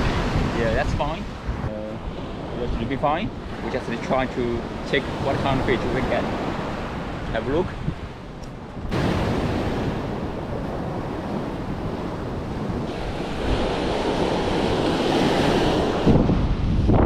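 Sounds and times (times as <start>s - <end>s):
surf breaking on beach: 0.0s - 7.8s, 8.9s - 17.0s
wind buffeting microphone: 0.0s - 17.0s.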